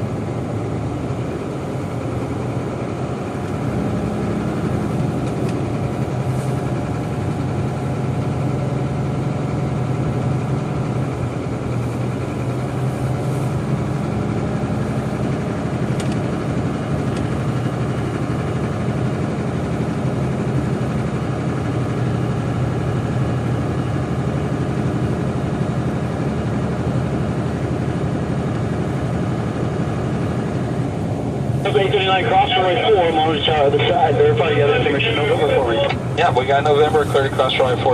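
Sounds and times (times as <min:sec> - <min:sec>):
jet engines idling: 0:00.0 - 0:37.9.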